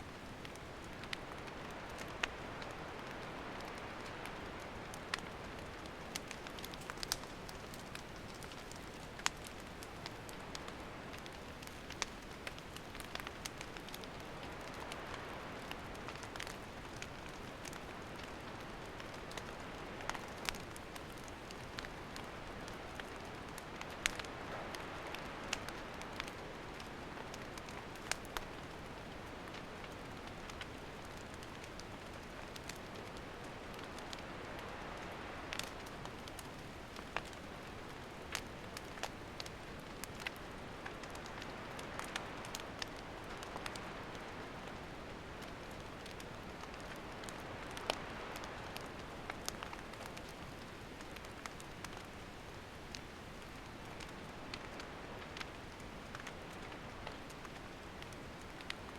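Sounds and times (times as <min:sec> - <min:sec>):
campfire crackling and hissing: 0:00.0 - 0:58.9.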